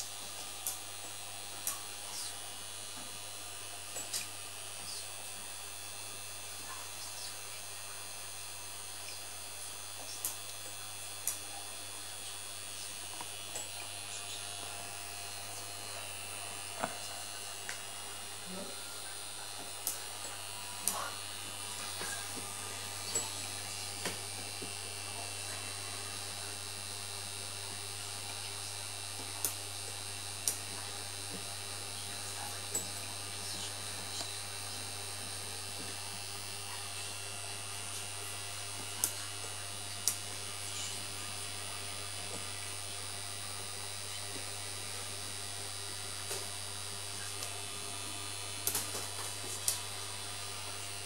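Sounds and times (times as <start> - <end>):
electric motor buzz: 0.0 - 51.0.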